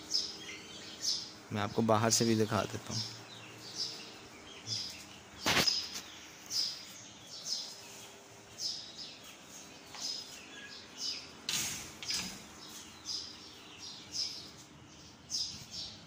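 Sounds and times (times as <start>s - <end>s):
fan humming: 0.0s - 16.0s
young chickens peeping: 0.0s - 16.0s.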